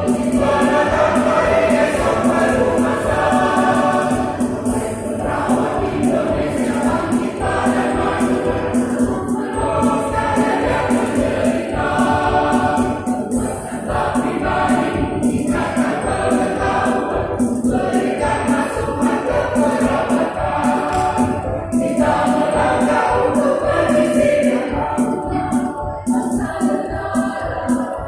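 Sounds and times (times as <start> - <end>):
mixed choir singing: 0.0 - 28.0.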